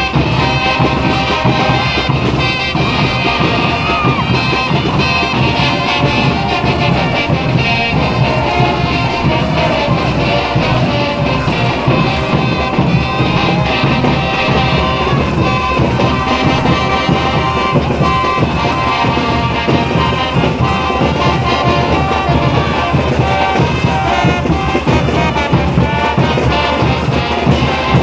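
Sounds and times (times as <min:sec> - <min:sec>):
brass band playing: 0:00.0 - 0:28.0.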